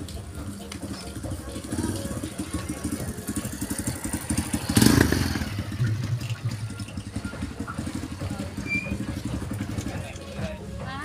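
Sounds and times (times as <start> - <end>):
small motorcycle engine running: 0.4 - 10.6.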